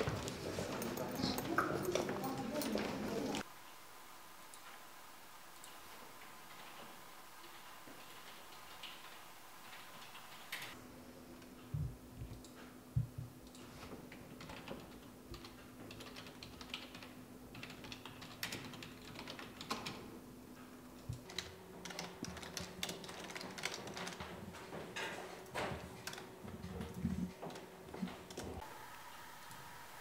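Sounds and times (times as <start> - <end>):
faint steady hum: 0.0 - 23.4, 24.0 - 30.0.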